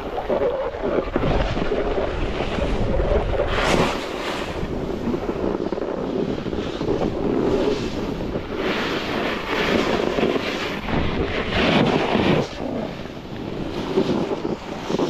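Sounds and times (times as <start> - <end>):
wind buffeting microphone: 0.0 - 15.0
skis scraping on packed snow: 0.1 - 15.0.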